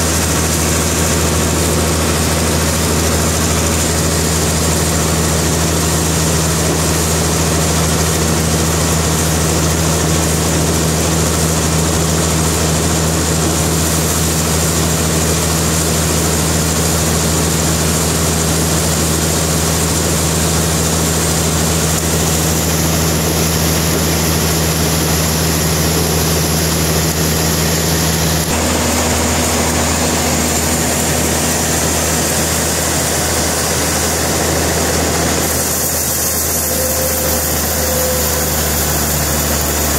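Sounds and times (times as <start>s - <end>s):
sawmill machinery engine drone: 0.0s - 39.9s.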